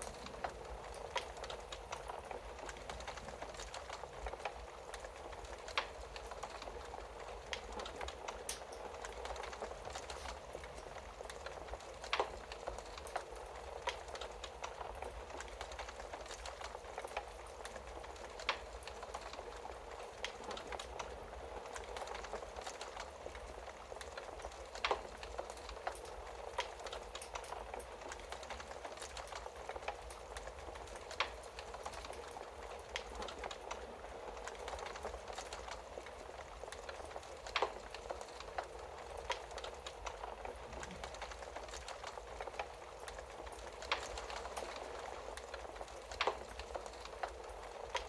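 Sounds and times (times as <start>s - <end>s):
sharp snaps of fire: 0.0s - 48.0s
wood fire hissing and crackling: 0.0s - 48.0s.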